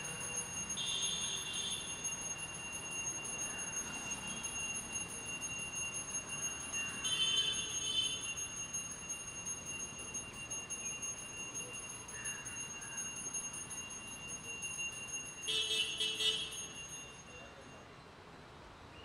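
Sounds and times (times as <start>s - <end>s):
bell ringing: 0.0s - 18.0s.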